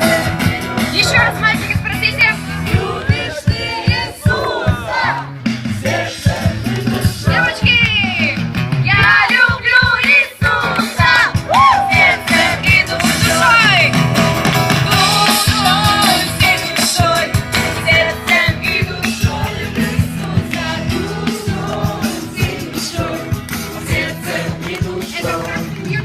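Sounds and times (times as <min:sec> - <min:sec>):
song with singing and drums: 0:00.0 - 0:26.0.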